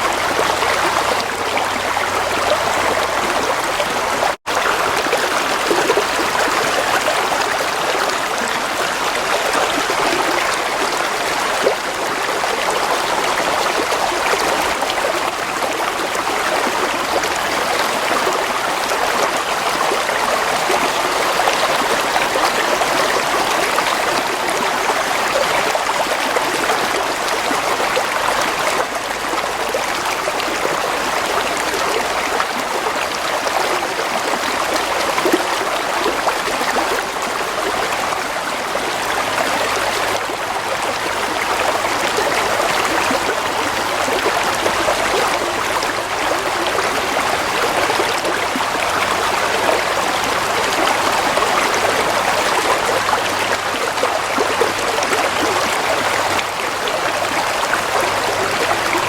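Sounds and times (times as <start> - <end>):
stream water babbling: 0.0 - 59.0.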